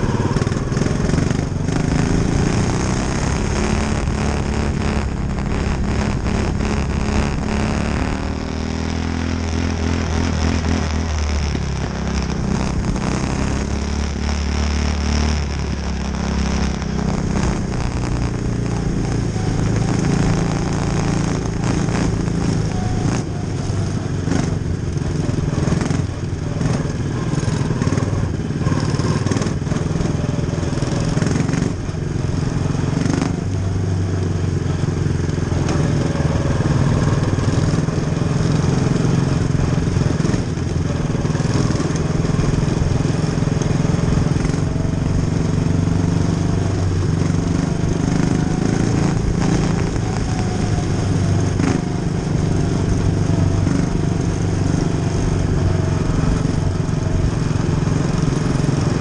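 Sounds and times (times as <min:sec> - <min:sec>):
race car engine running: 0:00.0 - 0:59.0.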